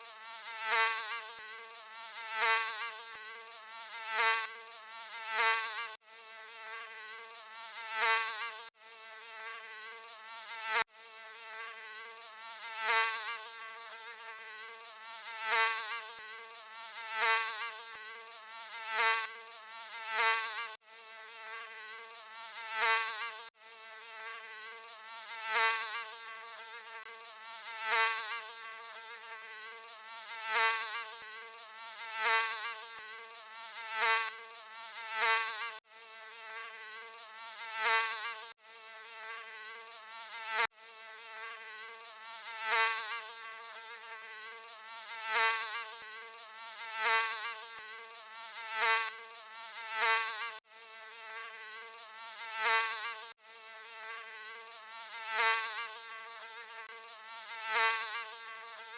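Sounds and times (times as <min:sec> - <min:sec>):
mosquito buzzing: 0:00.0 - 0:58.9.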